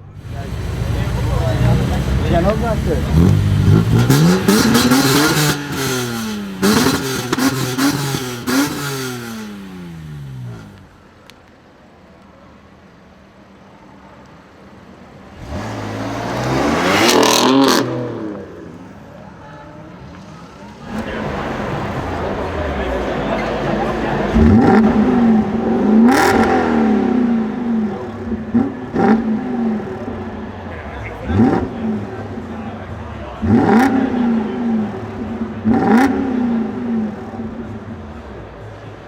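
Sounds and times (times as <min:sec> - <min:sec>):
car engine accelerating through gears: 0:00.0 - 0:10.9, 0:15.3 - 0:18.8, 0:20.8 - 0:39.0
second car passing: 0:00.0 - 0:11.4, 0:15.3 - 0:39.0.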